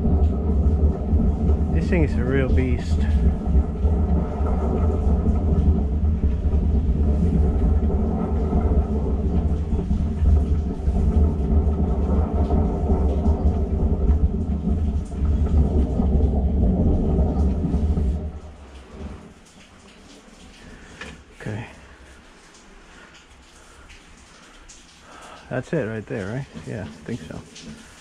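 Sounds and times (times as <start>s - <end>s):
sewer jetter deep rumble: 0.0s - 28.0s.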